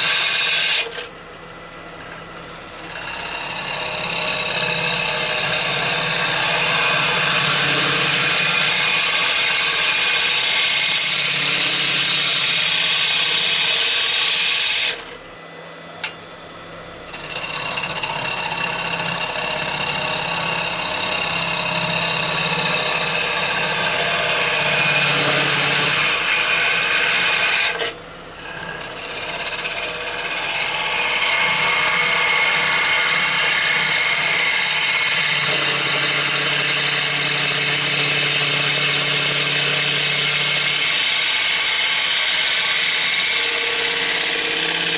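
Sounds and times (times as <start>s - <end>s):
gouge scraping wood on lathe: 0.0s - 1.1s, 2.0s - 15.2s, 17.0s - 44.9s
lathe motor hum: 0.0s - 44.9s.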